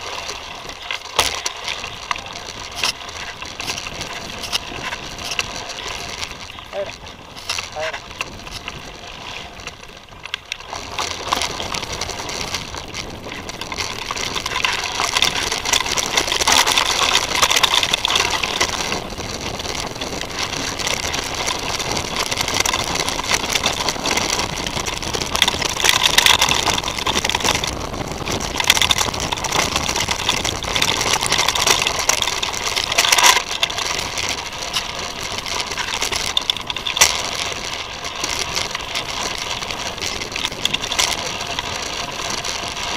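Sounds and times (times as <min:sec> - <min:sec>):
bike knocks and rattles: 0:00.0 - 0:42.9
bike tyre trail noise: 0:00.0 - 0:42.9.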